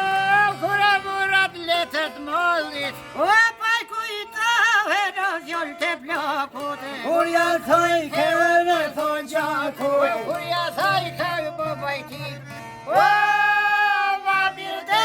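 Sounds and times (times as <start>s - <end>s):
ornamented folk melody: 0.0s - 15.0s.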